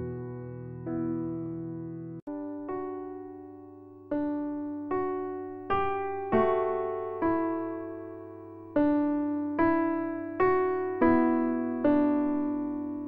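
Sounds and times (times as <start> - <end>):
slow gentle piano: 0.0 - 13.0.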